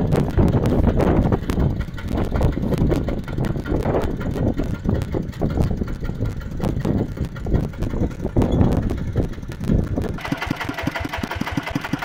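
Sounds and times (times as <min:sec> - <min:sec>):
diesel engine thumping: 0:00.0 - 0:12.0.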